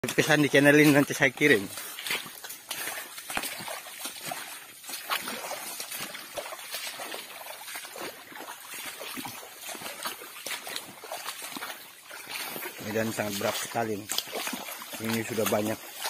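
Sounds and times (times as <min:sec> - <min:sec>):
footsteps splashing through mud: 0:00.0 - 0:16.0.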